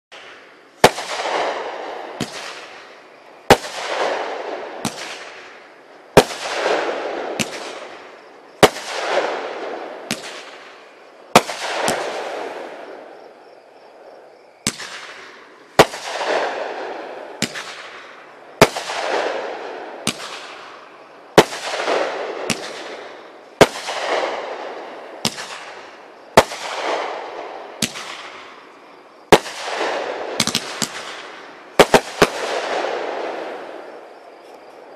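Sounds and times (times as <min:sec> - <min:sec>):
light fireworks pops: 0:00.1 - 0:09.4, 0:10.0 - 0:13.1, 0:14.6 - 0:16.8, 0:17.4 - 0:24.5, 0:25.2 - 0:27.2, 0:27.8 - 0:34.9
fireworks bangs: 0:00.1 - 0:13.4, 0:14.0 - 0:34.9.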